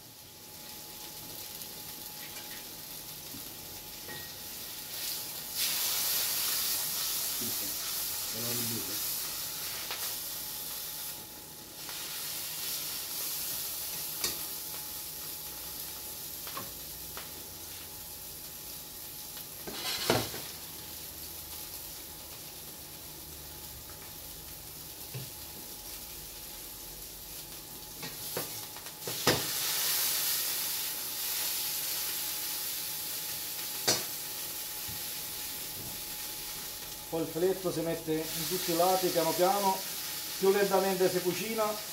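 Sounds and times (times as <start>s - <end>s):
meat and mushrooms sizzling: 0.0s - 41.9s.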